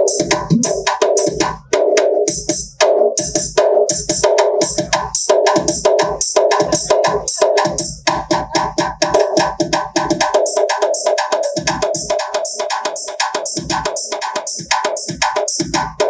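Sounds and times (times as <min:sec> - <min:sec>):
music with fast drum beat: 0:00.0 - 0:16.0.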